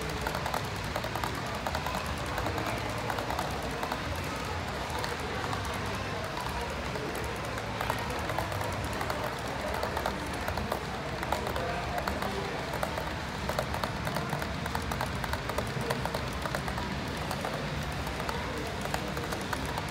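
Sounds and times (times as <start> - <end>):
model train wheels clicking: 0.0 - 19.9.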